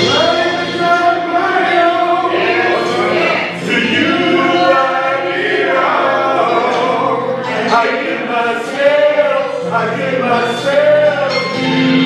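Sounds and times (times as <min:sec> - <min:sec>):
church choir singing: 0:00.0 - 0:12.0.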